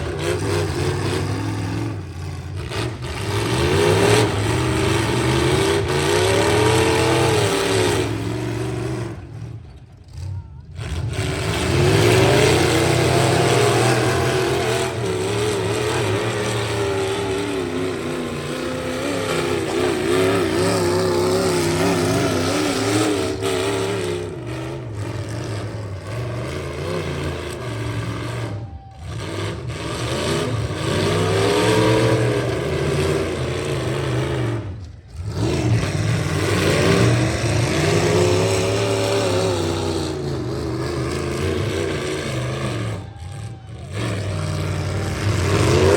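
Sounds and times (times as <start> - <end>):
truck engines revving hard: 0.0 - 45.9.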